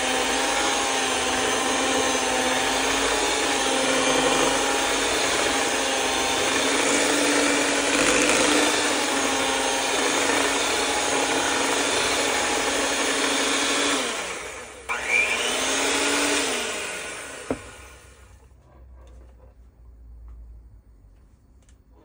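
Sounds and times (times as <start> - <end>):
electric hand mixer whining: 0.0 - 18.5.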